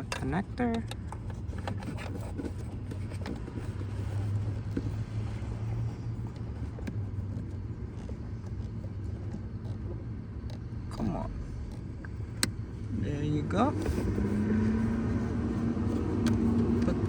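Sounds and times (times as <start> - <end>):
vehicle humming: 0.0 - 17.0.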